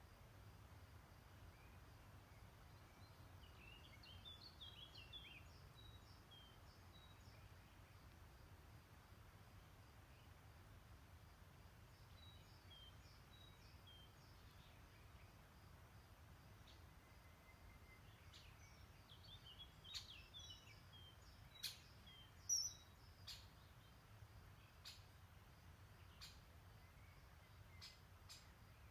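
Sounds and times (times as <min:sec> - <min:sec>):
songbirds chirping: 0:00.0 - 0:28.9.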